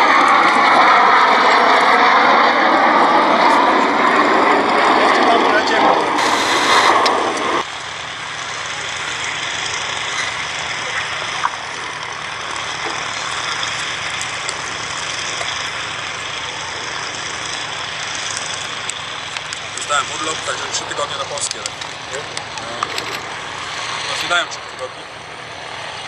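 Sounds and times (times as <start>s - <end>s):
jet aircraft in flight: 0.0s - 26.0s.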